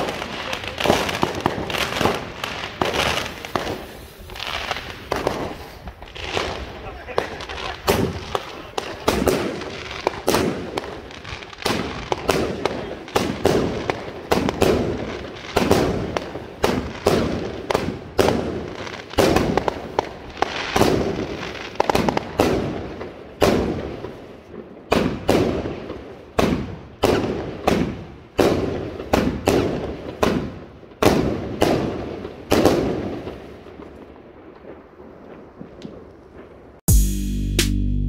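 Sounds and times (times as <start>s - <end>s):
fireworks firing sharp reports: 0.0s - 36.8s.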